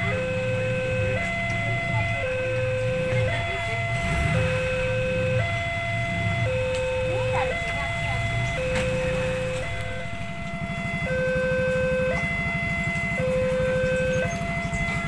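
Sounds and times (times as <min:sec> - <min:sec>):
level crossing alarm tones: 0:00.0 - 0:15.0
low pulsing rumble: 0:00.0 - 0:15.0.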